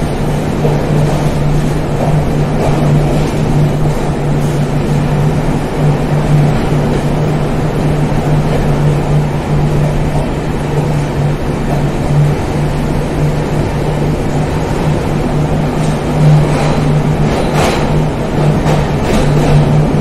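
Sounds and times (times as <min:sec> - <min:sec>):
low pulsing hum: 0:00.0 - 0:20.0
train wheels rumbling on rail: 0:00.0 - 0:20.0.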